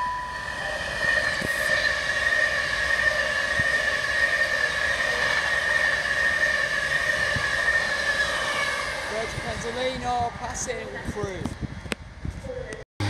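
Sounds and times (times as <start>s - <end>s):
electric train passing: 0.0s - 11.4s
high whine: 0.0s - 12.8s.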